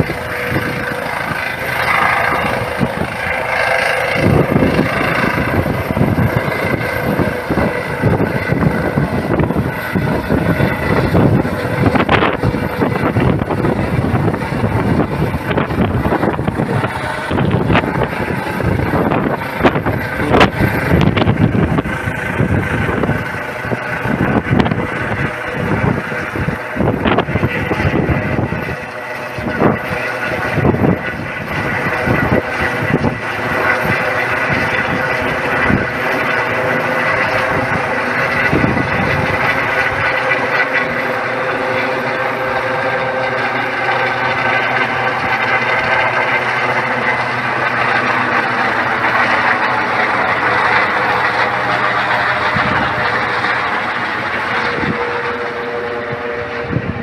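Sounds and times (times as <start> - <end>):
helicopter turbine and rotor noise: 0.0 - 57.0.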